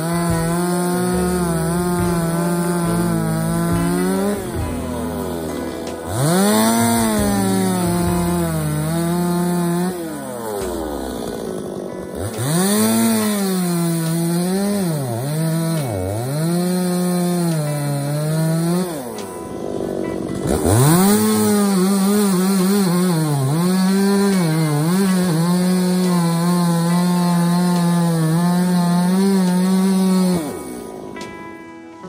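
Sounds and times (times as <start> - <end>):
chainsaw cutting log: 0.0 - 32.0.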